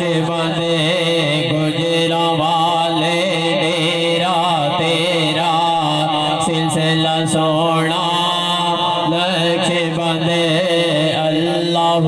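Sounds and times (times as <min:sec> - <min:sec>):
men chanting low drone: 0:00.0 - 0:12.0.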